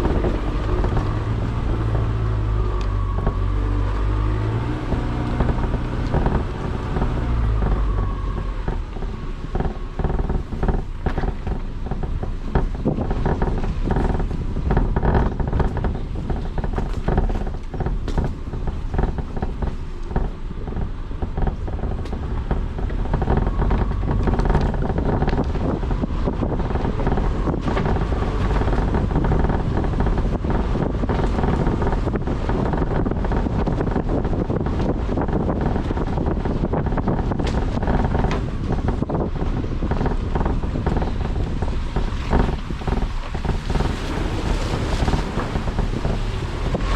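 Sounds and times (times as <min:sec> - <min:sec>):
car engine and road noise: 0:00.0 - 0:46.9
short knocks and clicks: 0:00.0 - 0:46.9
wind on microphone: 0:00.0 - 0:46.9.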